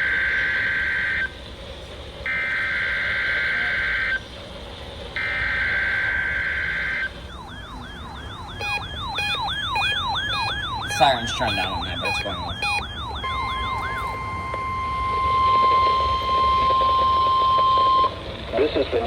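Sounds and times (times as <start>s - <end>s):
wavering electronic alert siren: 0.0s - 1.4s, 2.2s - 4.2s, 5.2s - 18.3s.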